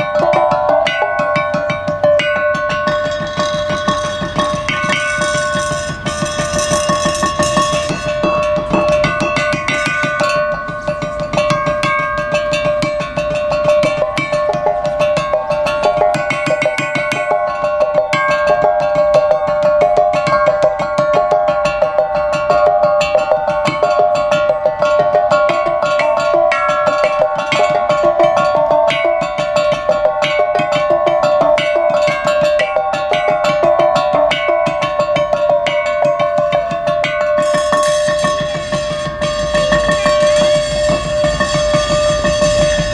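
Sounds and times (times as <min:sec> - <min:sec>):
mallets on tuned percussion bars: 0:00.0 - 0:42.9.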